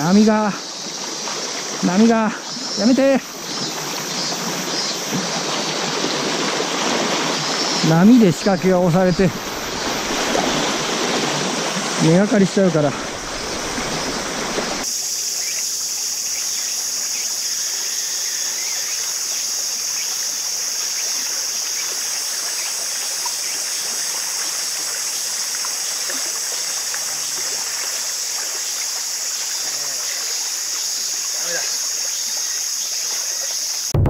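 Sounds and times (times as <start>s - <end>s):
small waves lapping on concrete: 0.0s - 14.9s, 17.7s - 33.8s
chorus of insects: 0.0s - 34.0s.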